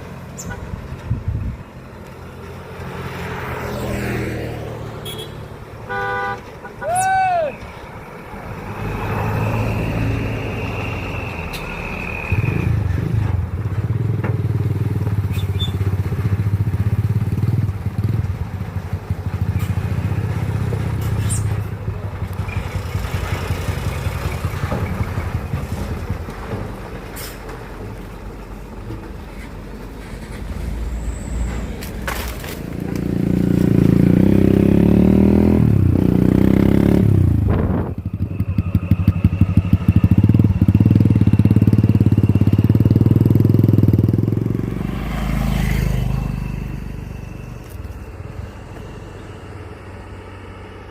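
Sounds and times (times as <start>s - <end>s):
diesel engine running: 4.8s - 50.9s.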